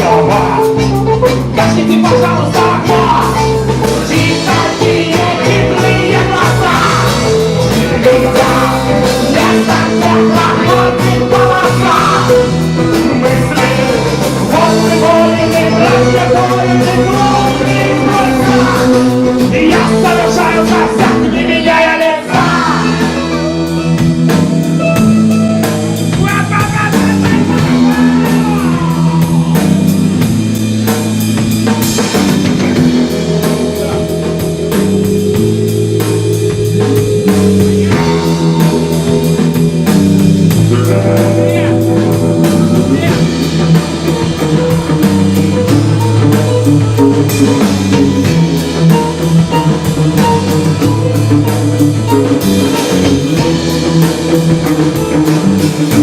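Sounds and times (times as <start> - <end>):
rock band playing instrumental: 0.0 - 56.0.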